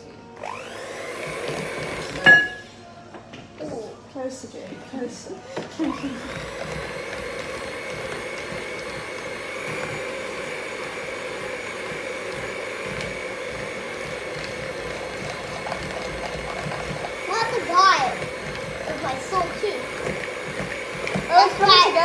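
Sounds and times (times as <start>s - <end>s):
electric mixer whirring: 0.0s - 2.6s, 5.6s - 22.0s.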